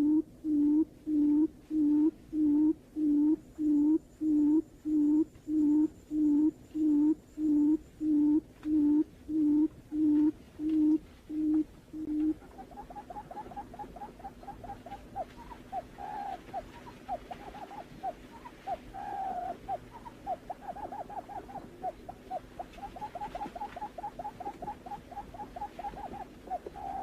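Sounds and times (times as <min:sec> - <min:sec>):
bird hooting calls: 0:00.0 - 0:27.0
steady low hum: 0:00.0 - 0:27.0.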